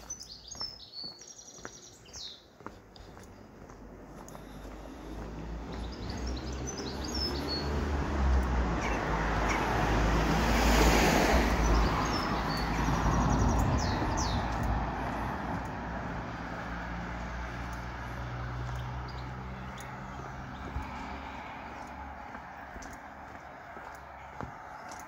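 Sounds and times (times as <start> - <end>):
small birds chirping: 0.0 - 25.0
vehicle passing: 1.9 - 25.0.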